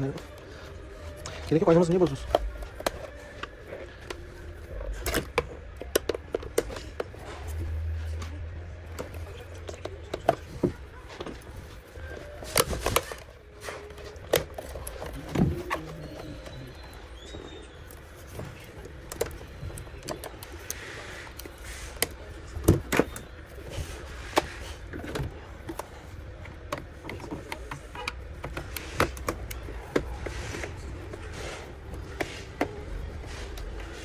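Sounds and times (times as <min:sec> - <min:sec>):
clicks and knocks of hand repair: 0:00.1 - 0:16.8, 0:17.8 - 0:33.9.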